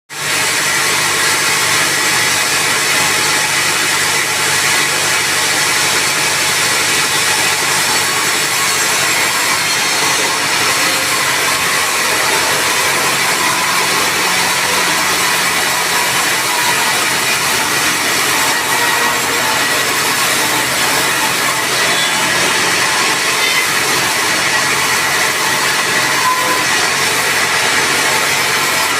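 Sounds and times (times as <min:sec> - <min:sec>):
saw cutting through timber: 0:00.1 - 0:28.9
machine motor hum: 0:00.2 - 0:28.9.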